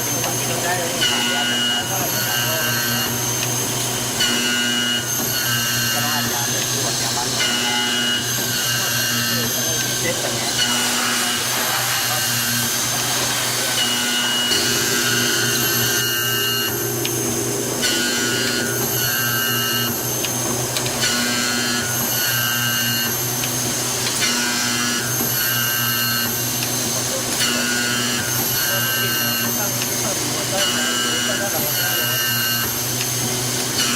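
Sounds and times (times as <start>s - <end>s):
machine whining: 0.0s - 33.9s
motor hum: 0.0s - 33.9s.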